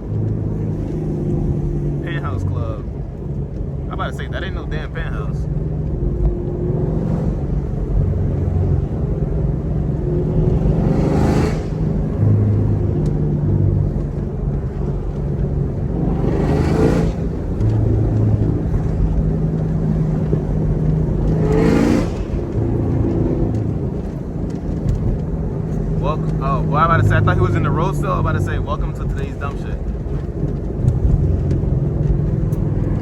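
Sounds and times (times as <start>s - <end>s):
car engine cruising: 0.0s - 33.0s.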